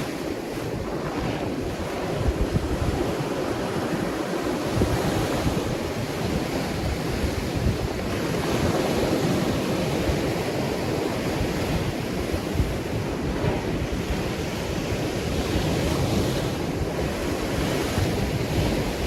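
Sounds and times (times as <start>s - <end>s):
ocean waves washing: 0.0s - 19.0s.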